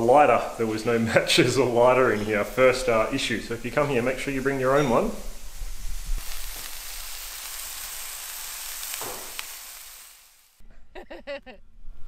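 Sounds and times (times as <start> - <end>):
meat patties sizzling in pan: 0.0 - 10.6.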